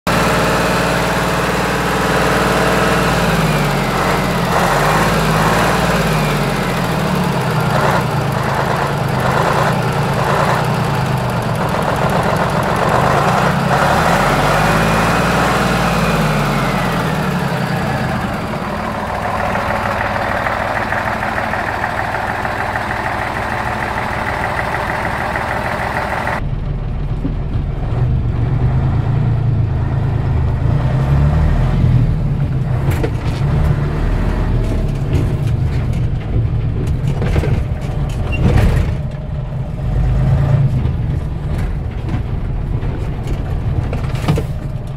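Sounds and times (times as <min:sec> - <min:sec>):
diesel engine idling: 0:00.1 - 0:30.9, 0:34.5 - 0:44.9.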